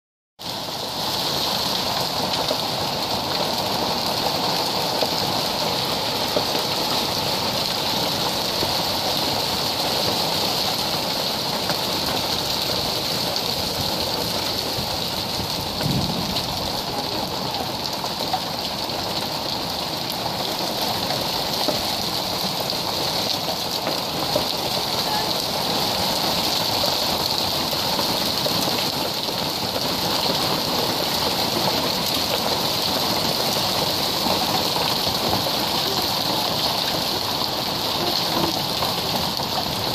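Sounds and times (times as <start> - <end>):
hailstones striking pavers and lawn: 0.6 - 39.9.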